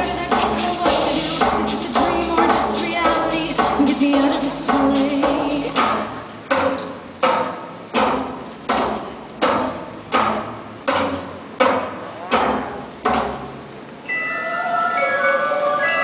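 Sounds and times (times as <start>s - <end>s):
clock ticking over loudspeakers: 0.0s - 13.3s.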